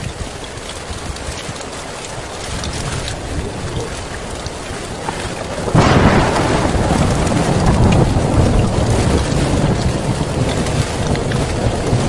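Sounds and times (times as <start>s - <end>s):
heavy rain falling: 0.0s - 12.0s
thunderclap with deep rumble: 2.3s - 12.0s.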